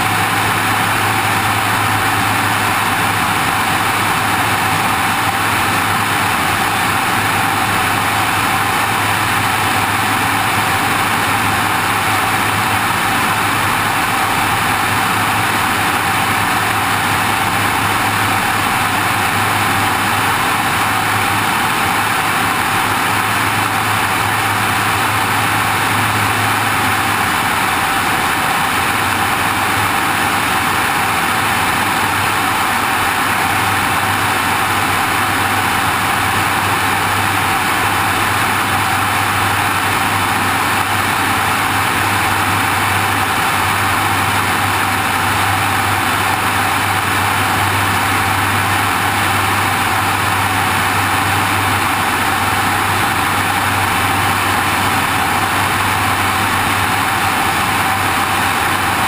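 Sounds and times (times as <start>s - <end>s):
engine and propeller drone: 0.0s - 59.0s.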